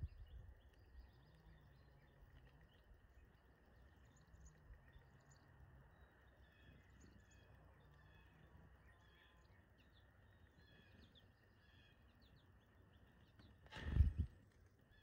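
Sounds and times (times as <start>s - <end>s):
faint small bird chirps: 0.0s - 15.0s.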